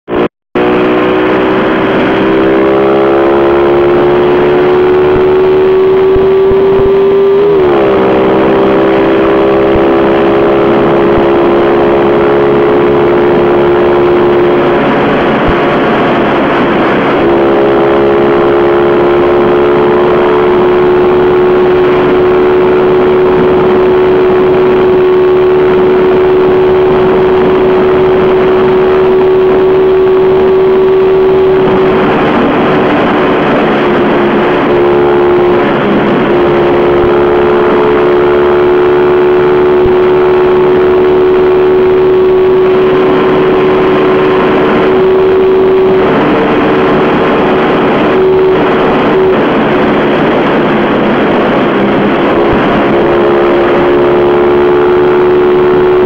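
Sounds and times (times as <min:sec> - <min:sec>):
motorcycle engine at high revs: 0:00.1 - 0:56.0
rushing noise: 0:00.1 - 0:56.0.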